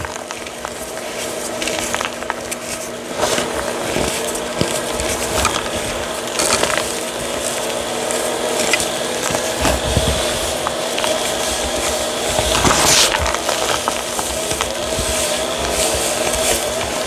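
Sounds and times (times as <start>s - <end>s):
chalk crushing and crumbling: 0.0s - 17.0s.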